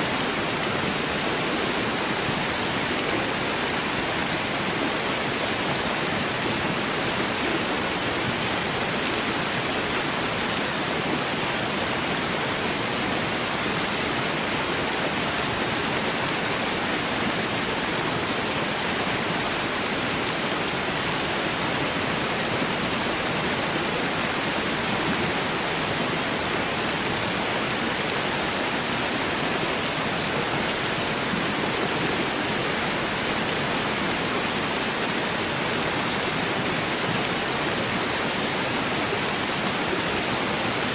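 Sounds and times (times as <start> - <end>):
creek water running: 0.0 - 40.9.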